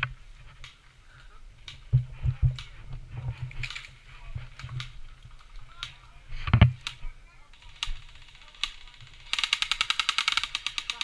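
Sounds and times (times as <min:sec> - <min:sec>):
gear clicking and rattling: 0:01.6 - 0:11.0.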